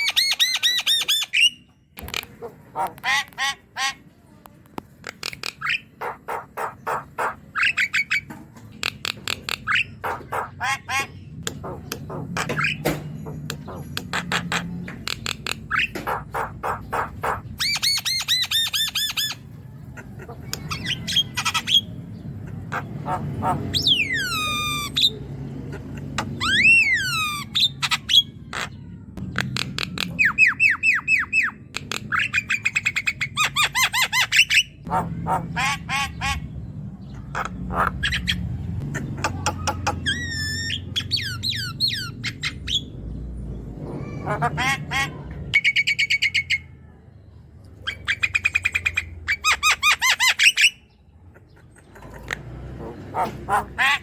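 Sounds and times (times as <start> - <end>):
myna bird singing: 0.0 - 54.0.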